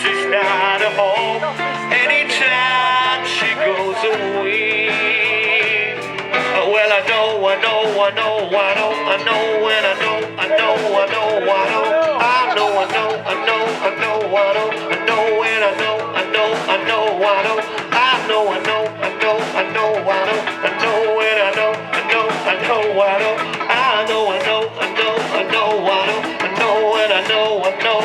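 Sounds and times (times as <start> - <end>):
live band playing soul-rock: 0.0 - 28.0
person singing: 0.0 - 28.0.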